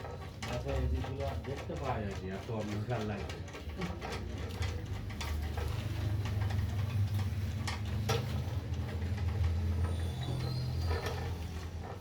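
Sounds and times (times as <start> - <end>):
sharp clicks and light knocks: 0.0 - 12.0.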